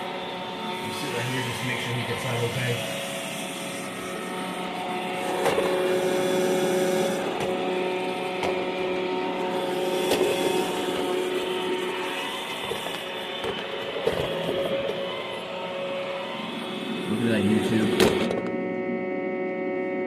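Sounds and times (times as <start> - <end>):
robot vacuum whining: 0.0 - 20.0.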